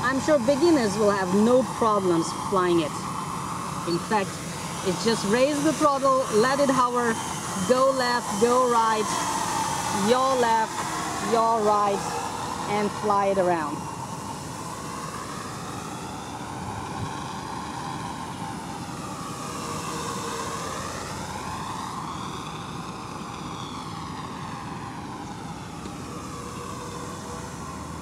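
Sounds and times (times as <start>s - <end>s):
drone propellers buzzing: 0.0s - 28.0s.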